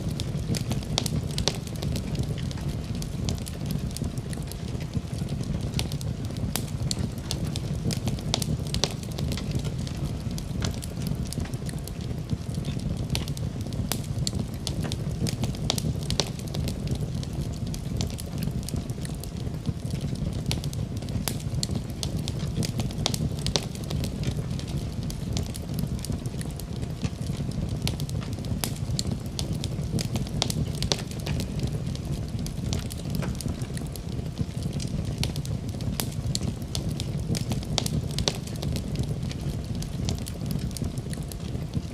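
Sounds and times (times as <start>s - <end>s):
fire crackling in a fireplace: 0.0s - 41.9s.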